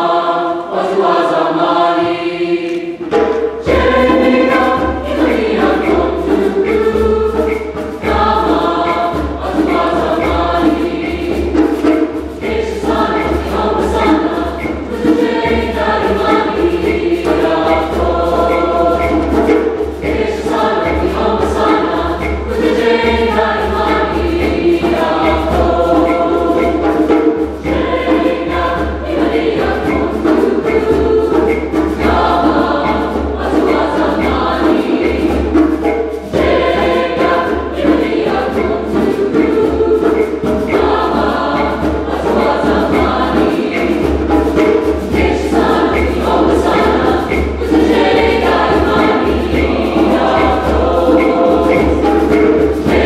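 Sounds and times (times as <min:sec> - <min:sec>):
mixed choir singing in harmony: 0:00.0 - 0:53.0
hand drum beating: 0:01.9 - 0:53.0.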